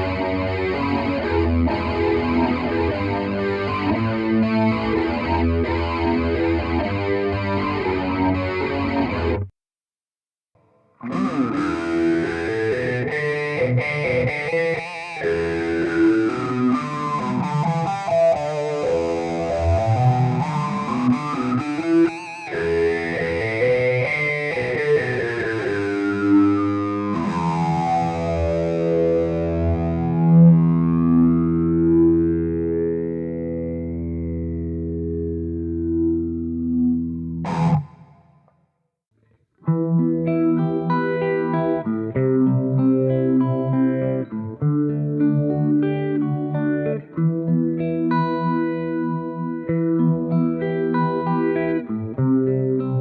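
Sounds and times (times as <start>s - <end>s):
electric guitar with sweeping effect: 0.0s - 9.5s, 10.6s - 38.6s, 39.2s - 53.0s.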